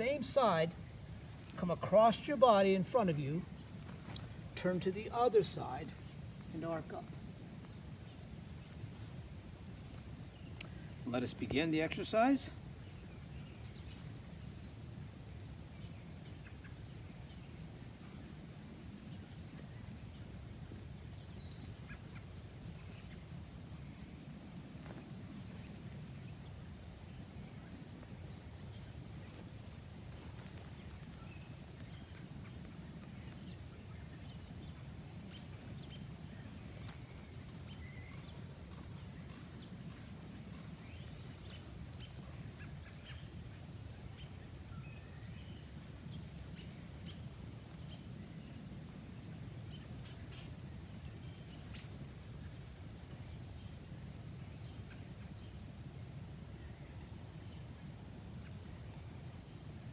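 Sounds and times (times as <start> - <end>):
birds chirping: 0.0 - 18.3, 19.0 - 55.6.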